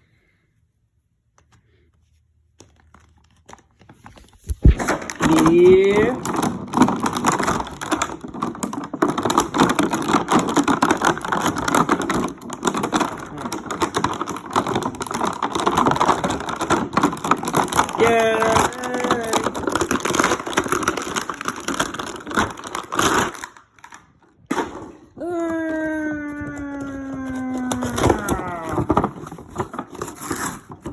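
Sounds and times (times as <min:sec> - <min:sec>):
plastic packaging crinkling: 0:02.5 - 0:30.9.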